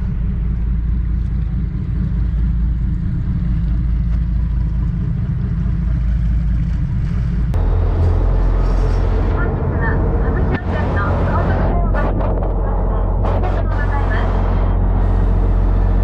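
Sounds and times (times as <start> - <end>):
boat engines droning: 0.0 - 16.0.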